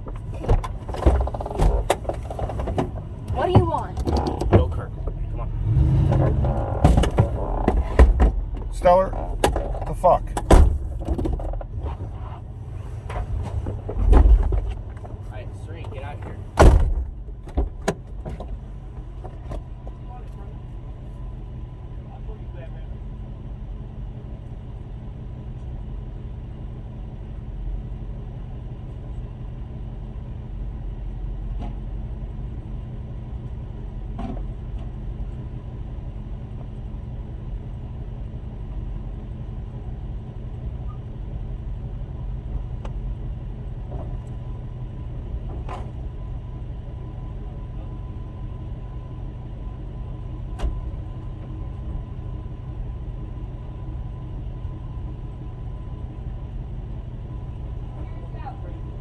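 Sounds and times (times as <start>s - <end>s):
motor vehicle rumble: 0.0s - 59.0s.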